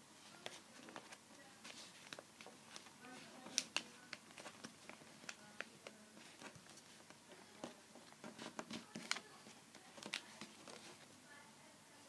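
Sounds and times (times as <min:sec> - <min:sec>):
paper crinkling and folding: 0:00.2 - 0:11.1.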